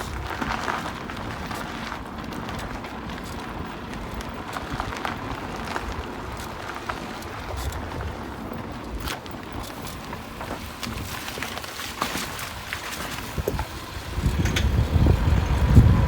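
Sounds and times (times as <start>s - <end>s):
road noise rumble: 0.0s - 16.0s
suspension clicks and knocks: 0.0s - 16.0s.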